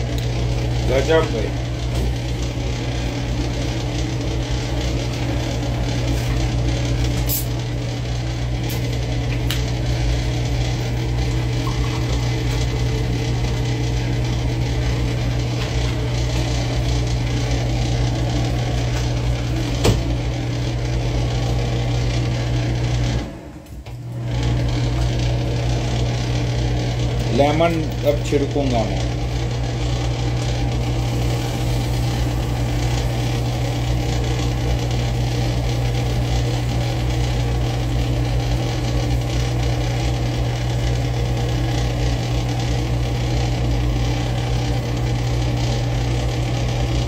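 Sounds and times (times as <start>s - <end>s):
electric motor humming: 0.0s - 47.0s.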